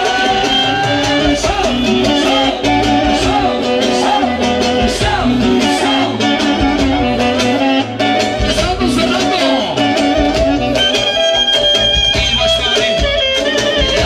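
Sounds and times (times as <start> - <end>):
guitar melody: 0.0 - 14.0
steady drum beat: 0.0 - 14.0.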